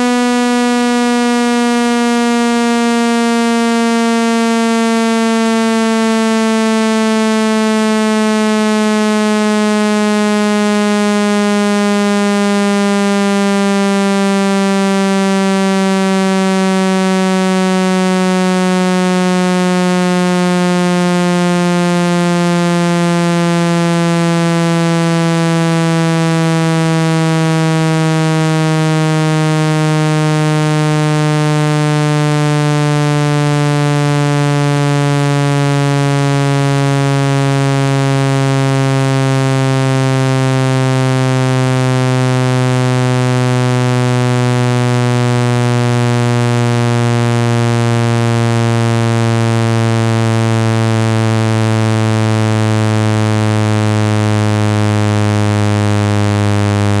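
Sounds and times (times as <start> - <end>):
low buzzy synthesized tone: 0.0 - 57.0.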